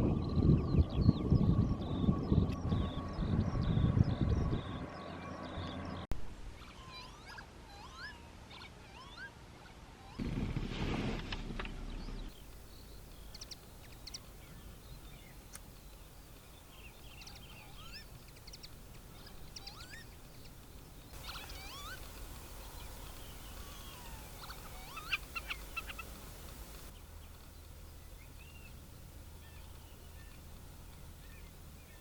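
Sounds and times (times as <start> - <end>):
wild birds chirping and singing: 0.0 - 10.3, 11.6 - 32.0.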